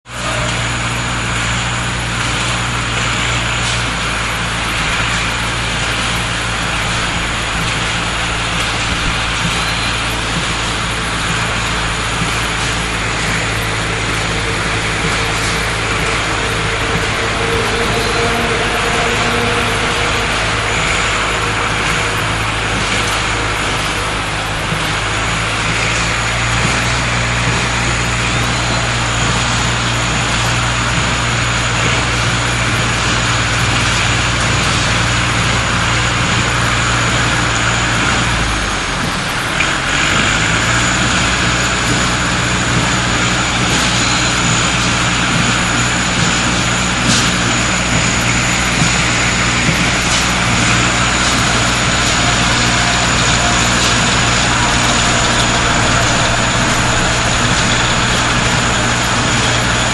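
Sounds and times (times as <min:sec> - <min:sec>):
hay baler machinery churning: 0:00.0 - 0:59.9
tractor engine running: 0:00.0 - 0:59.9.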